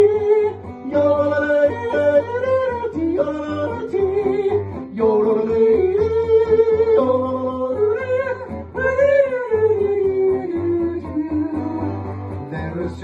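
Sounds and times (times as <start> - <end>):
guitar accompaniment: 0.0 - 13.0.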